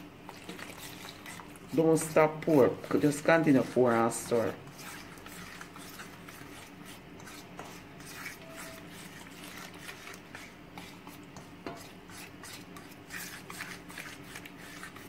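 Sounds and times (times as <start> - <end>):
fork scraping metal bowl: 2.5 - 15.0.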